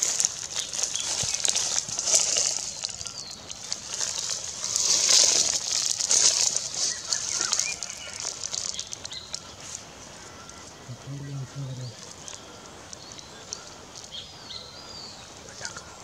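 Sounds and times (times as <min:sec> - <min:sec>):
high hissing crackling rustle: 0:00.0 - 0:16.0.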